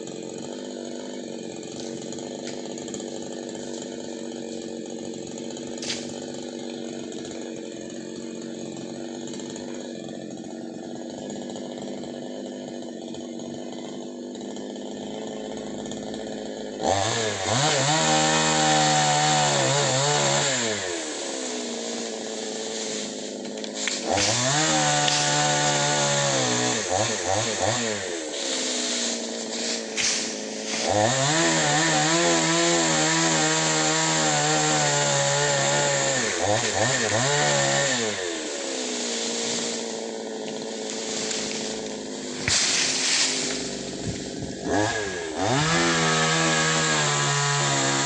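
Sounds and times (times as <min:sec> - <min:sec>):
chainsaw engine revving: 0:00.0 - 0:48.0.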